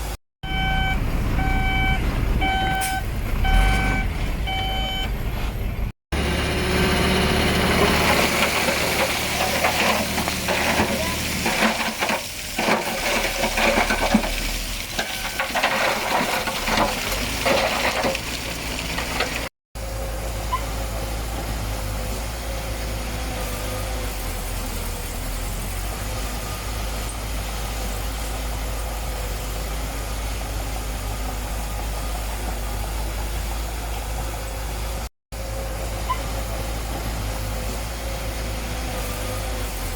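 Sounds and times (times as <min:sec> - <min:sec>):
diesel machinery engine: 0:00.0 - 0:39.9.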